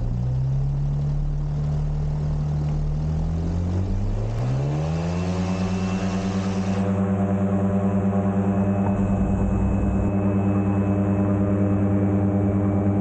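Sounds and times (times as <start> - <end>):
aircraft engine running: 0.0 - 13.0.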